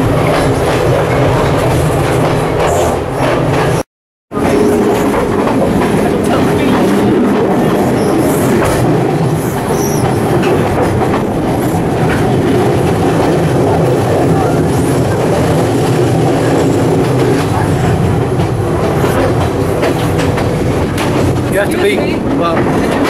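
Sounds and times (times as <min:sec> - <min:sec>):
passenger train running on track: 0:00.0 - 0:23.0.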